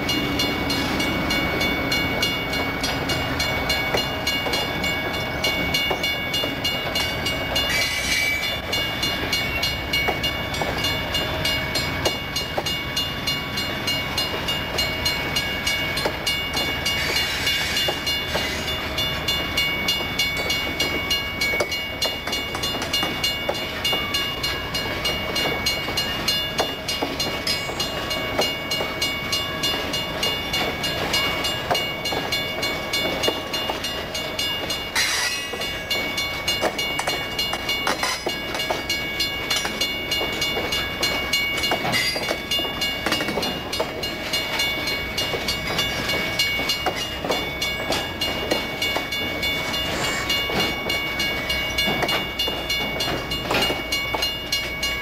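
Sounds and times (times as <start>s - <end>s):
steady high ringing: 0.0s - 55.0s
train wheels clicking over rail joints: 0.0s - 55.0s.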